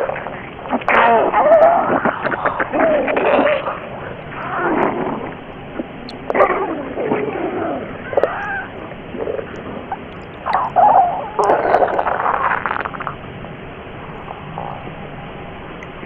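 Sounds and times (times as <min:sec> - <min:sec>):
stomach gurgling: 0:00.0 - 0:13.2.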